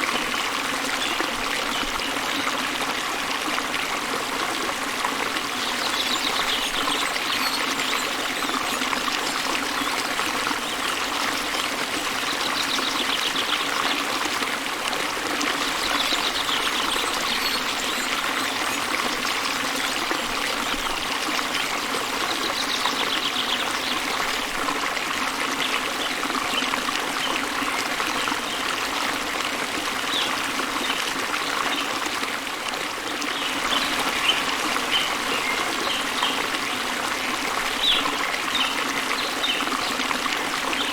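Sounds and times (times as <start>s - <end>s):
river flowing: 0.0s - 40.9s
small waterfall splashing: 0.0s - 40.9s.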